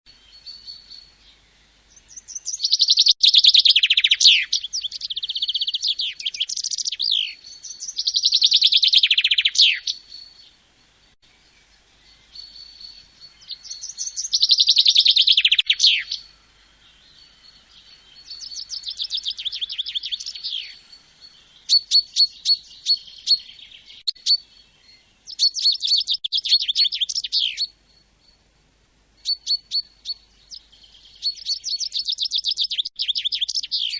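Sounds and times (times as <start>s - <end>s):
songbird trilling: 2.0s - 10.6s, 11.4s - 28.4s, 29.2s - 33.9s.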